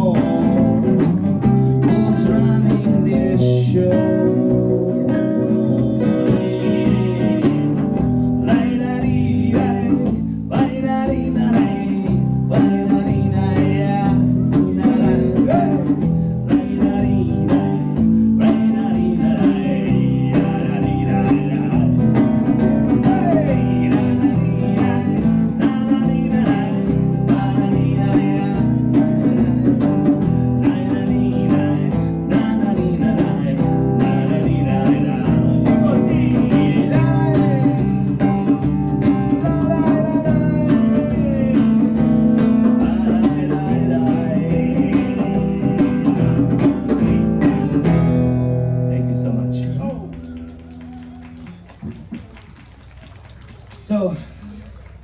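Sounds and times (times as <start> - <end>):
drum kit beat: 0.0 - 48.7
strummed acoustic guitar: 0.0 - 49.4.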